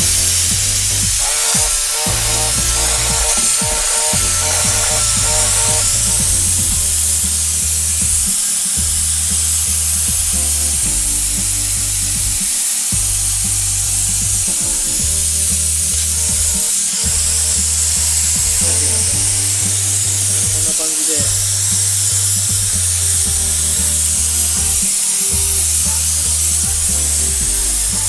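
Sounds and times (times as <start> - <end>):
background music with deep bass: 0.0 - 28.0
steam cleaner hissing: 0.0 - 28.0.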